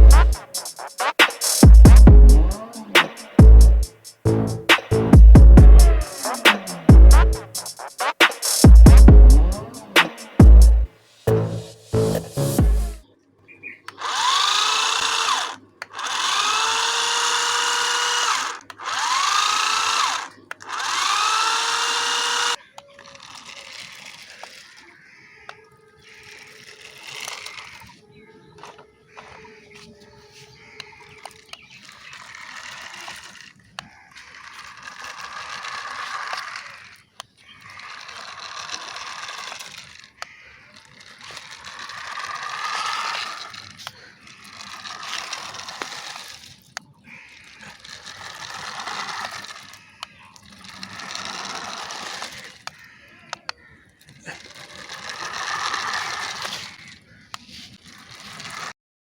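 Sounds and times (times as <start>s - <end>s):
sharp clicks: 0.0s - 10.8s, 13.8s - 28.0s, 30.8s - 58.7s
toy car motor whirring: 0.0s - 13.0s, 13.9s - 58.8s.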